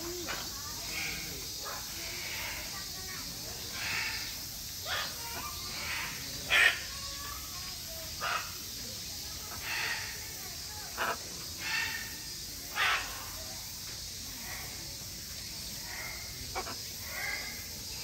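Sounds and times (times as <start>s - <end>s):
macaws harsh raspy calls: 0.1s - 18.0s.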